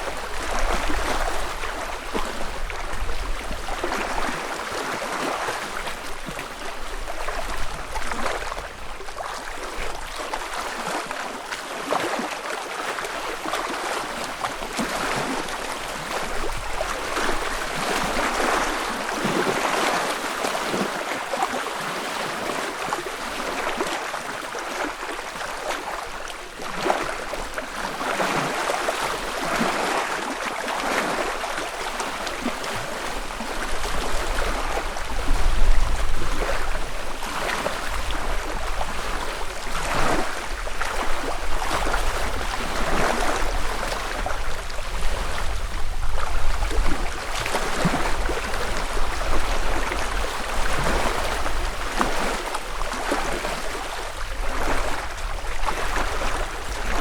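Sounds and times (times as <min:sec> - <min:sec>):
water lapping against shore: 0:00.0 - 0:57.0.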